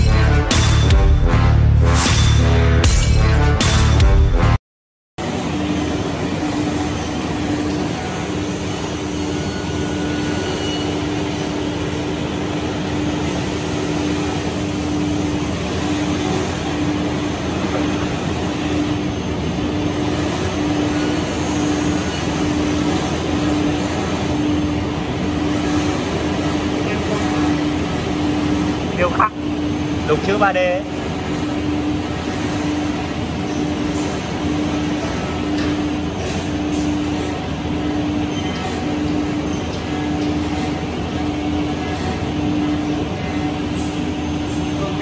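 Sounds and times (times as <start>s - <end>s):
machine hum: 5.2s - 45.0s.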